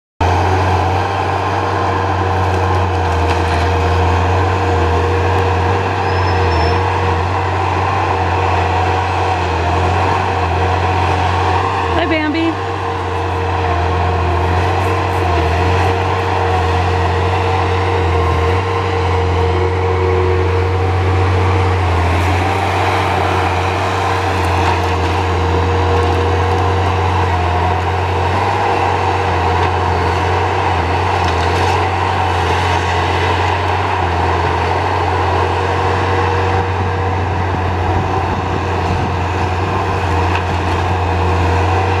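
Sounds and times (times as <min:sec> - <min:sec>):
diesel engine running: 0:00.2 - 0:42.0.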